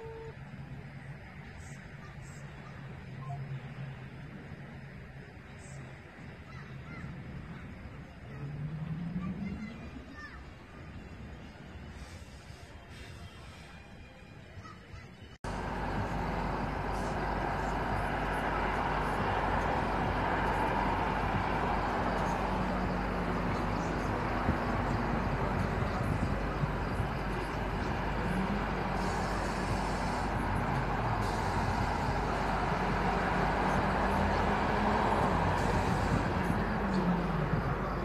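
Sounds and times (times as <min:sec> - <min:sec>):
distant road traffic rumble: 0:00.0 - 0:38.0.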